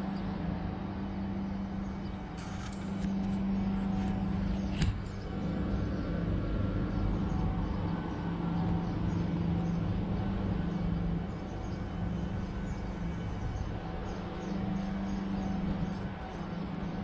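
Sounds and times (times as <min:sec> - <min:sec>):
rumbling background noise: 0:00.0 - 0:17.0
steady low hum: 0:00.0 - 0:17.0.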